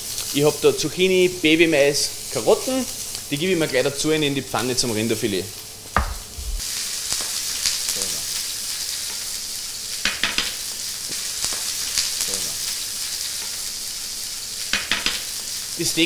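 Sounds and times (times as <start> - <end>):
vegetables and meat sizzling in pan: 0.0 - 16.0.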